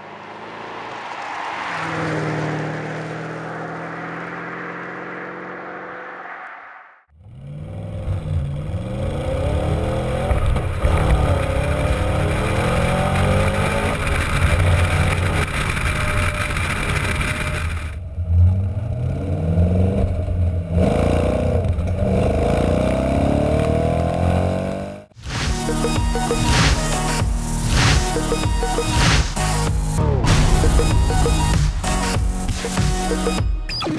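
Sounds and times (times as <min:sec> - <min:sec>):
car engine revving: 0:00.0 - 0:33.4.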